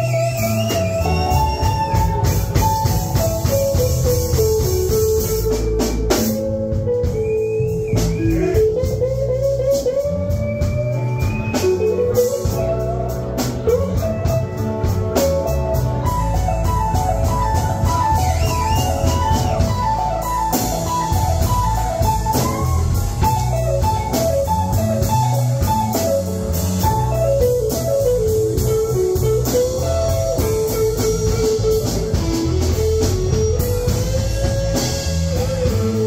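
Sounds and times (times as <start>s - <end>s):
bass and drums: 0.0s - 36.0s
electric guitar solo: 0.0s - 36.0s.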